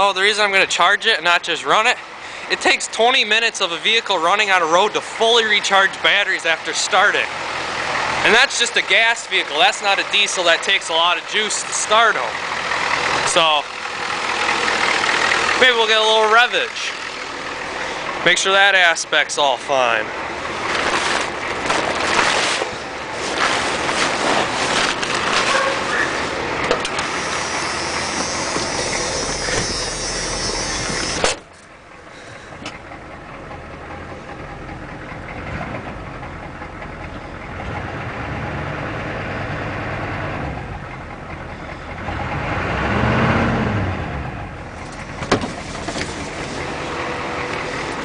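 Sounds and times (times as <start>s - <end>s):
diesel engine running: 0.0s - 48.0s
engine revving: 6.6s - 18.3s, 19.9s - 36.7s, 37.4s - 48.0s.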